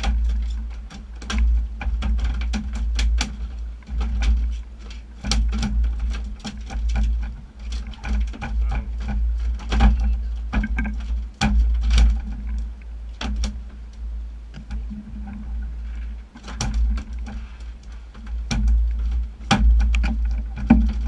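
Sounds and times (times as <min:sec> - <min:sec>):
outboard motors: 0:00.0 - 0:21.0
sharp clicks and knocks: 0:00.0 - 0:21.0
wind rumble: 0:00.0 - 0:21.0.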